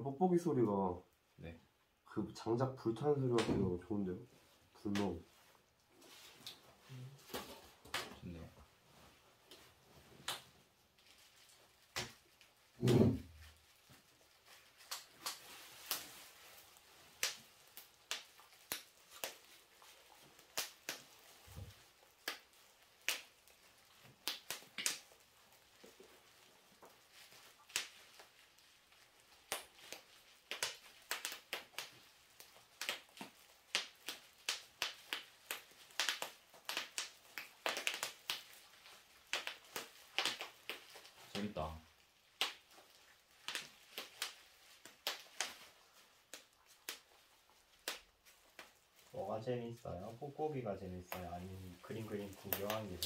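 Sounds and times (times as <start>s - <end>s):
bubble wrap popping: 2.9s - 53.0s.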